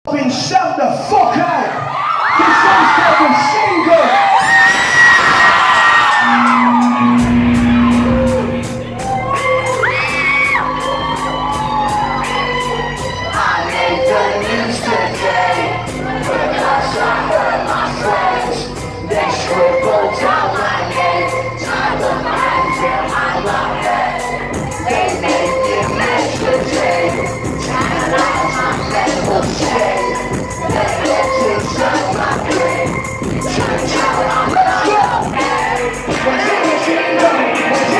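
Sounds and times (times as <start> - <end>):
crowd cheering and singing: 0.2 - 37.9
bass line: 4.4 - 37.9
live band playing: 4.4 - 37.9
fast hi-hat ticking: 6.1 - 37.9.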